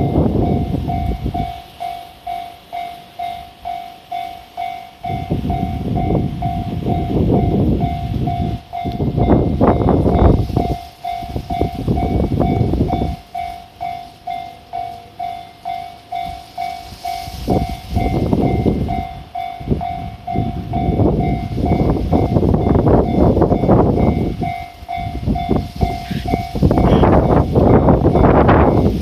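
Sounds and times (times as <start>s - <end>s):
level crossing warning bell: 0.0s - 29.0s
train wheels rumbling on rails: 0.0s - 29.0s.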